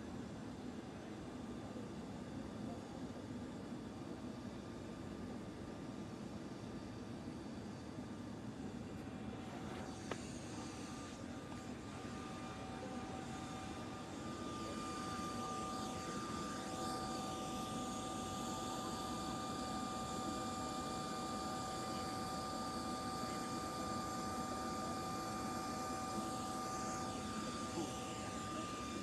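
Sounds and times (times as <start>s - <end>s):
jet engines whining and rumbling: 0.0s - 29.0s.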